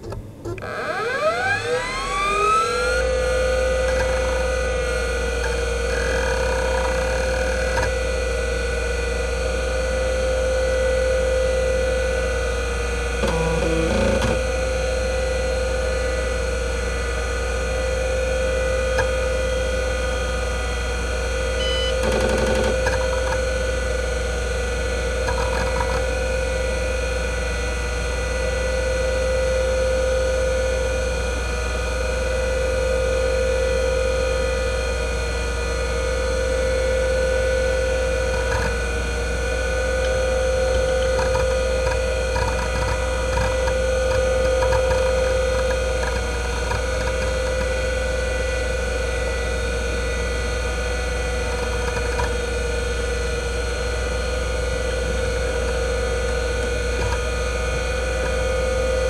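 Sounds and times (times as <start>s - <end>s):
hard drive spinning whine: 0.0s - 59.0s.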